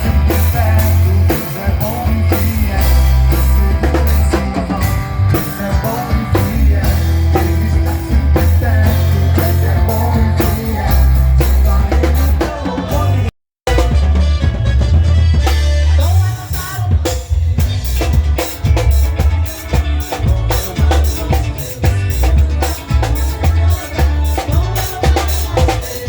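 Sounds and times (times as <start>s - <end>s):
drum kit beat: 0.0s - 26.0s
heavy bass line: 0.0s - 26.0s
live band playing: 0.0s - 26.0s.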